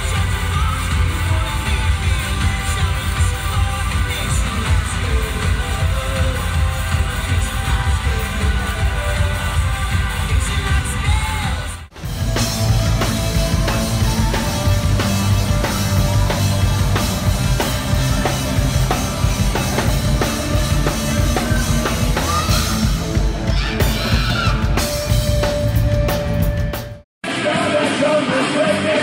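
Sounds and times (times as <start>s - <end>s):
live rock band playing: 0.0s - 29.0s
loud drum kit beat: 0.0s - 29.0s.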